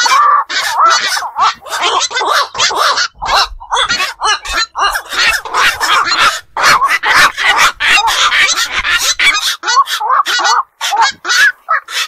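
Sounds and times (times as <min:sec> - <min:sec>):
herons croaking and squawking: 0:00.0 - 0:12.0.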